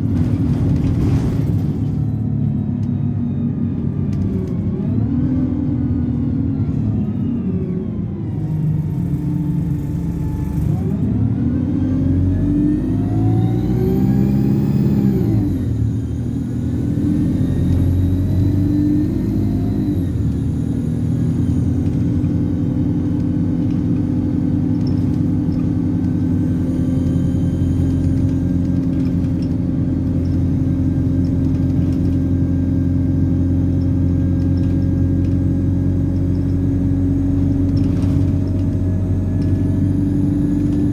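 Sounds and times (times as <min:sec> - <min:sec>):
bus engine accelerating: 0:00.0 - 0:40.9.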